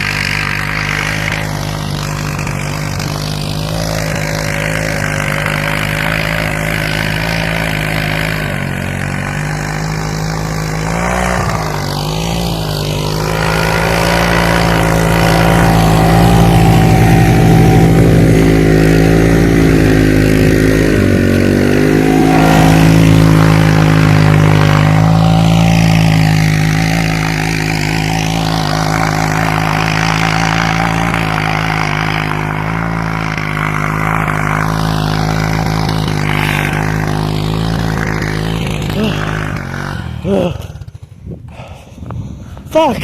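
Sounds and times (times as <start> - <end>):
quad bike engine running hard: 0.0 - 43.0.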